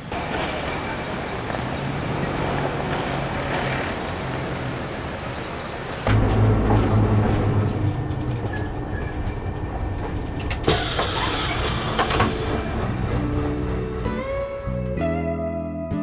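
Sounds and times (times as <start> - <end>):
wheel and track noise: 0.0 - 15.0
diesel engine hum: 0.0 - 15.1.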